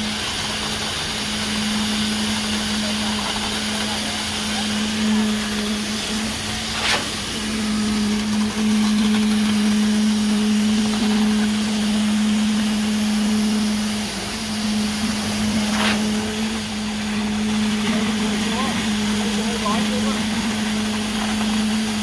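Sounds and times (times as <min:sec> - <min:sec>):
concrete machinery humming: 0:00.0 - 0:22.0
noisy wash: 0:00.0 - 0:22.0.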